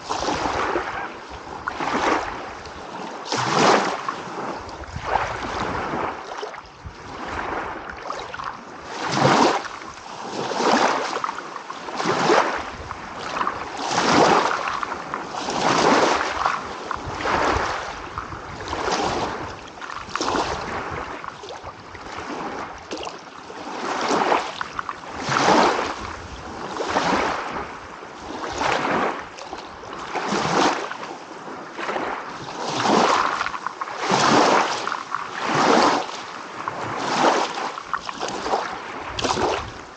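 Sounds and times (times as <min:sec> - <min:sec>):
small waves washing in: 0:00.0 - 0:39.9.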